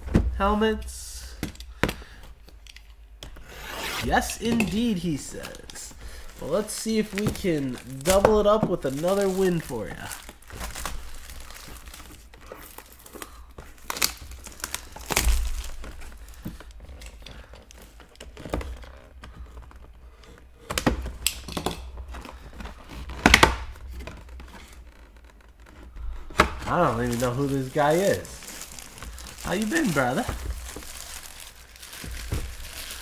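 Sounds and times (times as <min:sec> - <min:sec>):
wrappers crinkling and tearing: 0:03.6 - 0:20.5, 0:21.3 - 0:33.0.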